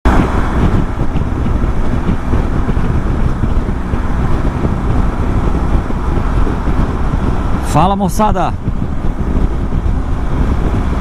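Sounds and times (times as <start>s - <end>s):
motorcycle running: 0.0s - 11.0s
road noise: 0.0s - 11.0s
wind buffeting microphone: 0.0s - 11.0s.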